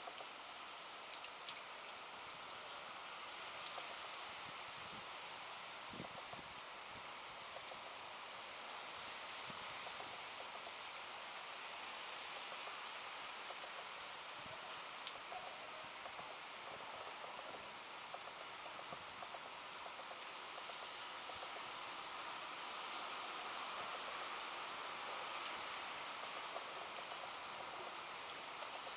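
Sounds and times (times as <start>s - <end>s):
steady rain: 0.0s - 28.9s.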